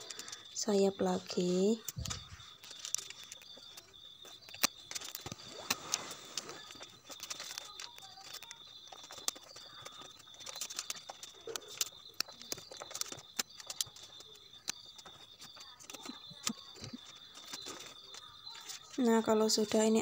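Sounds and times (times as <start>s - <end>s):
cellophane crinkling: 0.0s - 20.0s
faint steady high tone: 0.0s - 20.0s.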